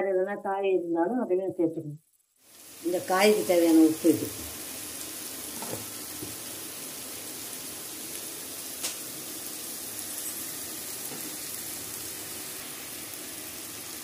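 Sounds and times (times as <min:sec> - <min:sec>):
vegetables sizzling in hot oil: 0:02.2 - 0:14.0.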